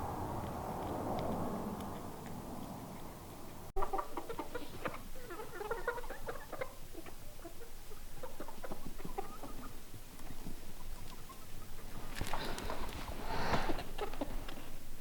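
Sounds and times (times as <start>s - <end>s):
rustle: 0.0s - 15.0s
chickens clucking: 1.7s - 14.6s.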